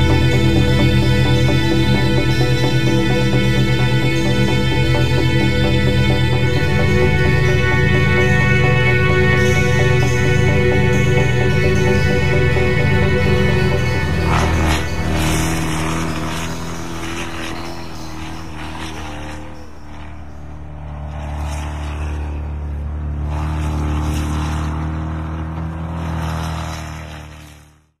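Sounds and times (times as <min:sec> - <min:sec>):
truck engine droning: 0:00.0 - 0:28.0.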